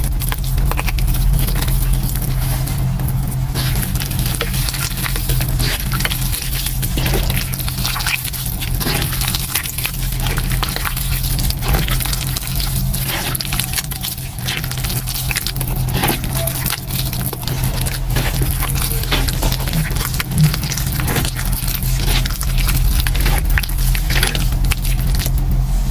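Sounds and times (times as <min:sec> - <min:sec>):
chalk chunks crackling: 0:00.0 - 0:25.9
wet squelching of chalk paste: 0:00.0 - 0:25.9.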